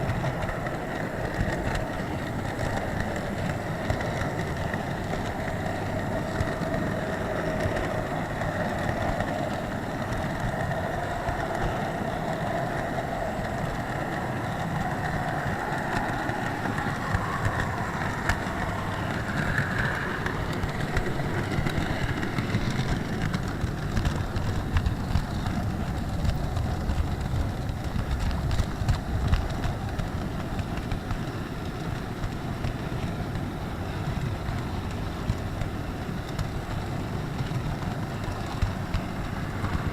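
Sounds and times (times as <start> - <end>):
model train rolling on track: 0.0 - 39.9
small track clicks: 0.0 - 39.9.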